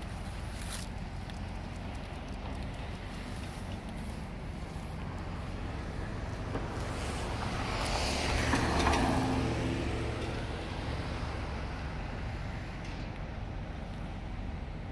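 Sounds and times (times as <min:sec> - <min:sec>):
steady low rumble: 0:00.0 - 0:14.9
car passing: 0:01.4 - 0:14.9.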